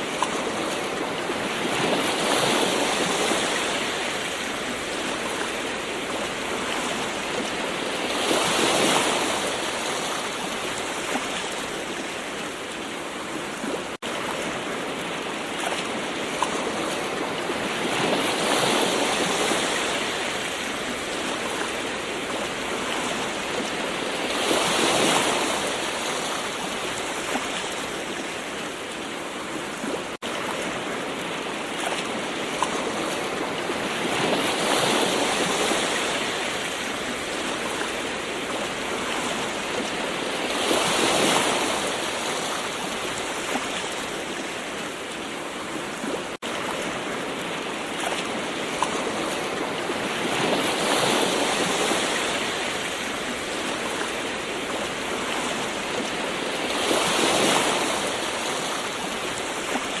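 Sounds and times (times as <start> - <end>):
ocean waves washing in: 0.0 - 60.0.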